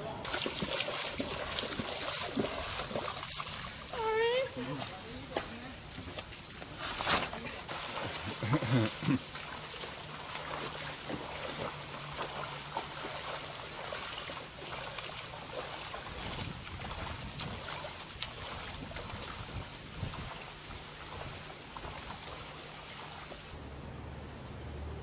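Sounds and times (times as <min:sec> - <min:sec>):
rushing floodwater: 0:00.0 - 0:23.6.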